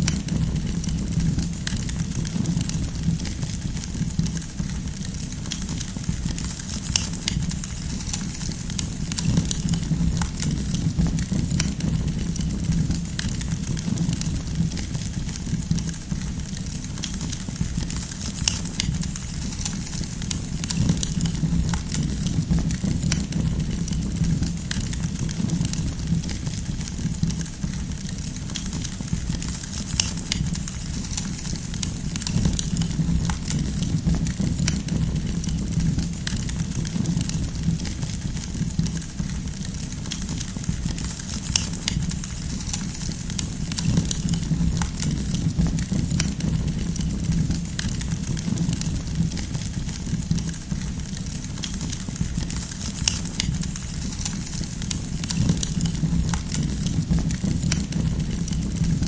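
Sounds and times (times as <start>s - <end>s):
burning wood crackling: 0.0s - 59.0s
low rumble of flames: 0.0s - 59.0s.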